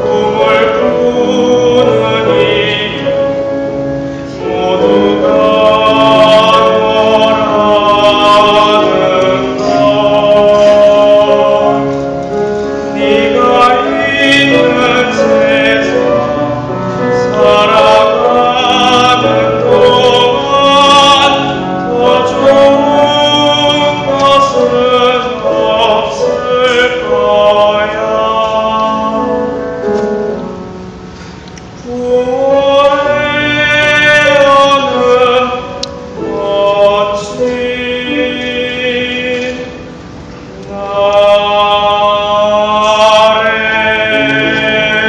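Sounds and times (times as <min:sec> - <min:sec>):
boy singing classical song: 0:00.0 - 0:45.0
instrumental accompaniment: 0:00.0 - 0:45.0.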